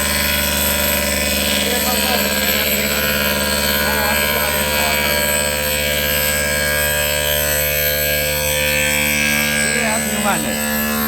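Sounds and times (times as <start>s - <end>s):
machine hum and whine: 0.0s - 11.0s.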